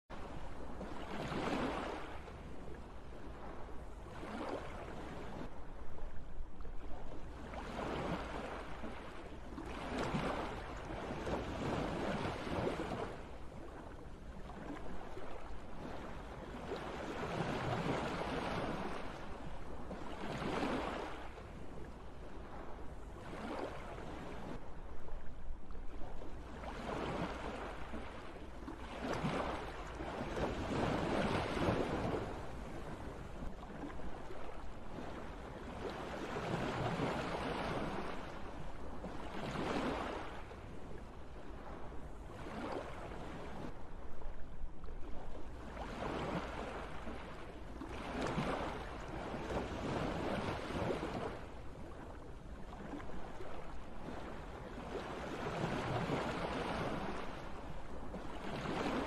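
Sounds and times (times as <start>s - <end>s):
wind rumble on microphone: 0.1s - 59.0s.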